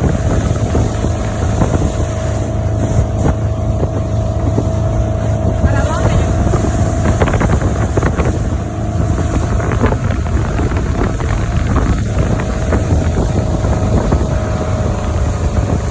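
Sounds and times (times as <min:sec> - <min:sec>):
motorboat engine rumbling: 0:00.0 - 0:15.9
wind buffeting microphone: 0:00.0 - 0:15.9.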